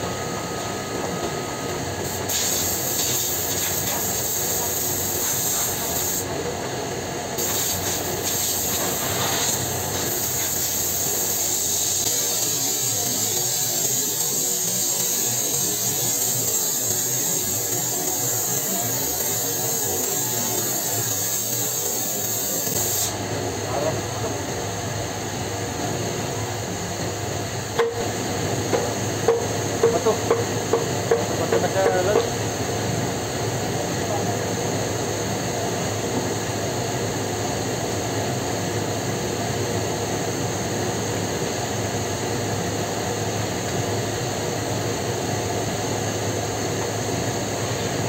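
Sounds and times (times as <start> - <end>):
printing machinery din and hiss: 0.0 - 48.0.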